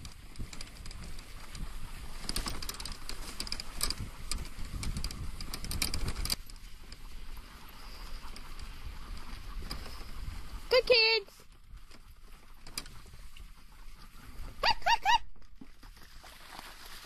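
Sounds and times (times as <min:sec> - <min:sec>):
sharp rattles and clicks: 0:00.0 - 0:14.2
rumble of wheels and running paws: 0:00.0 - 0:14.8.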